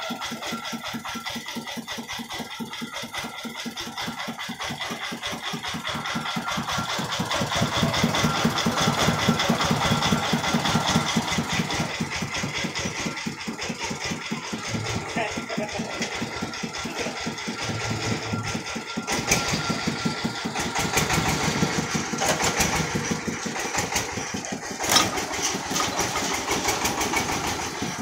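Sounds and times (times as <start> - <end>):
diesel engine chugging: 0.0 - 28.0.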